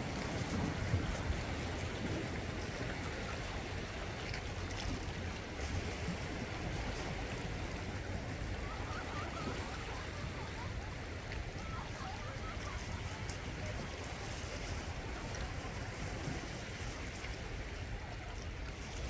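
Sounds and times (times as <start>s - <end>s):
sea waves washing over rocks: 0.0s - 19.0s.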